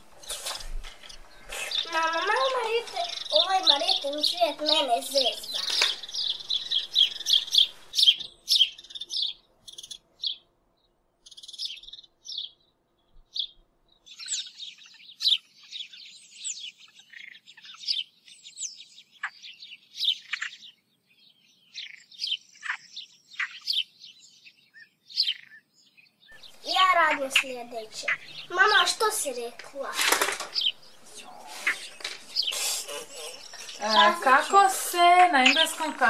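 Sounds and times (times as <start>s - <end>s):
small bird chirping and twittering: 0.1s - 10.5s, 11.2s - 36.0s.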